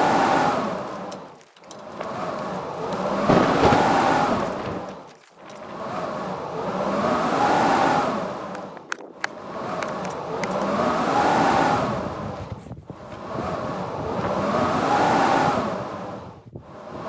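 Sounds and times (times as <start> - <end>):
blizzard wind howling: 0.0 - 17.0.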